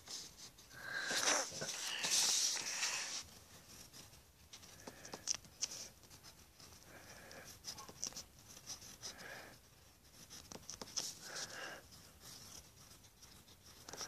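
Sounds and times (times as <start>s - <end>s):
drawing tool scratching paper: 1.1s - 14.0s.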